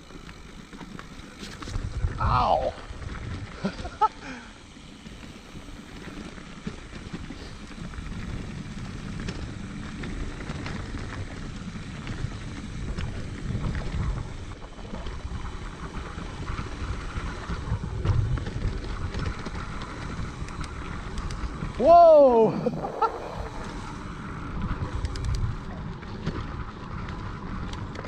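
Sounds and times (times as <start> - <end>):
bike clicks and rattles: 0.0 - 28.0
bike tyres rolling on dirt: 0.0 - 28.0
wind buffeting microphone: 1.5 - 4.0, 6.7 - 28.0.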